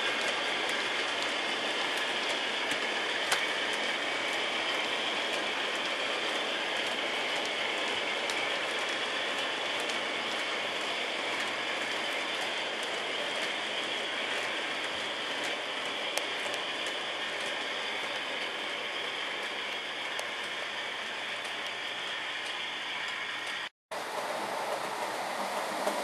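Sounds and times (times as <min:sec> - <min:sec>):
model train rolling hiss: 0:00.0 - 0:26.0.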